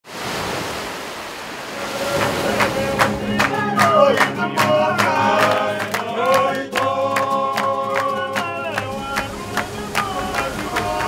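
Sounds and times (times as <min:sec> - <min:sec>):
group of voices singing: 0:01.7 - 0:11.0
strummed acoustic guitars: 0:01.8 - 0:11.0.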